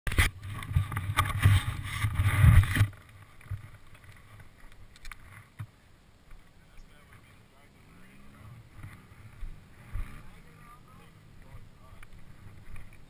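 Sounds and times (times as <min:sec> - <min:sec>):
faint wind hiss: 0:00.2 - 0:13.0.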